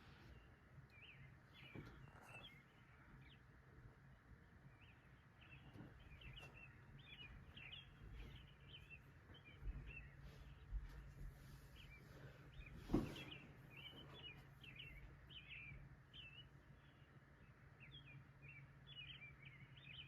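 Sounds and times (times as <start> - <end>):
faint bird chirps: 0.0 - 3.8, 4.6 - 20.0.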